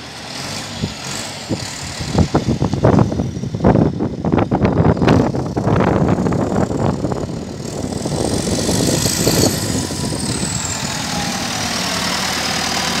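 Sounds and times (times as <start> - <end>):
tractor diesel engine at low revs: 0.0 - 13.0.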